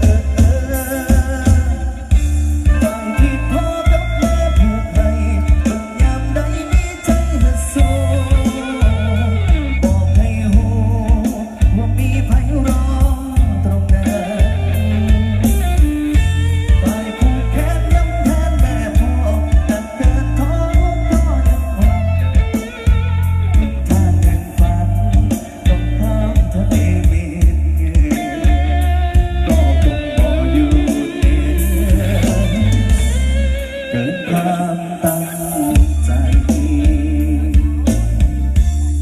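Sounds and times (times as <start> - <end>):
electric guitar: 0.0 - 39.0
live band music through pa: 0.0 - 39.0.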